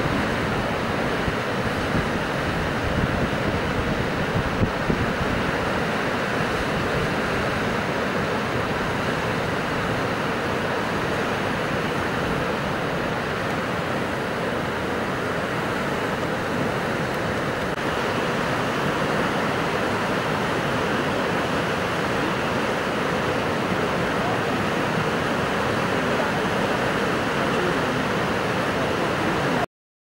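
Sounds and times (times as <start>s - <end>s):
whitewater rapids roaring: 0.0s - 29.7s.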